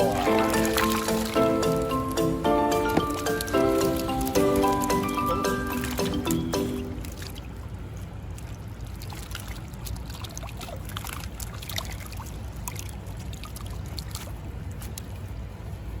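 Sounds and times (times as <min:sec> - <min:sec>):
creek water trickling: 0:00.0 - 0:15.6.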